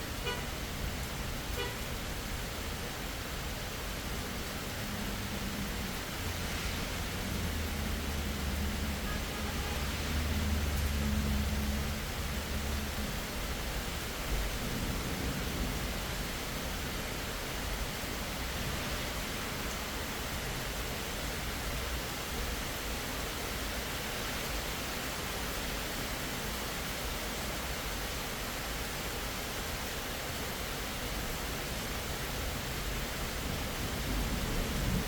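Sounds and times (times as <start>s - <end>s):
rain hissing: 0.0s - 35.0s.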